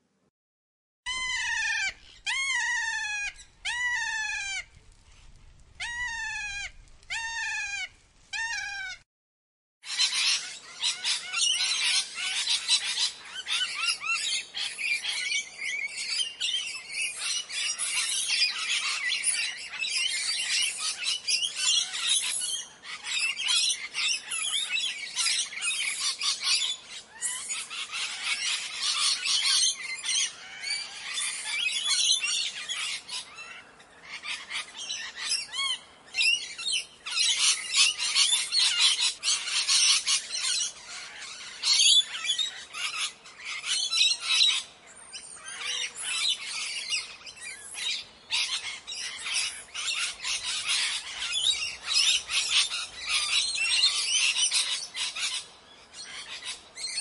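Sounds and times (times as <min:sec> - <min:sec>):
parrots chattering and screeching: 0:01.1 - 0:04.6, 0:05.8 - 0:09.0, 0:09.9 - 0:57.0.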